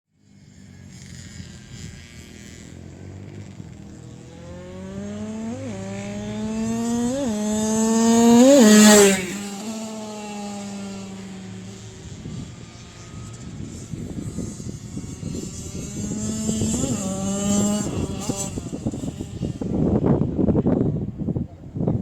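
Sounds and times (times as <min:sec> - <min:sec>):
motorcycle accelerating through gears: 0:00.2 - 0:21.9.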